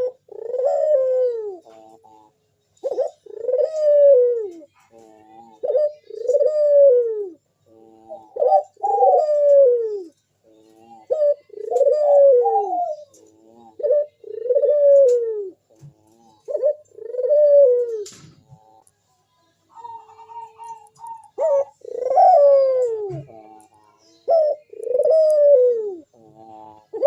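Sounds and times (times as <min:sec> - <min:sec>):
dove cooing: 0:00.0 - 0:18.9, 0:19.7 - 0:27.0.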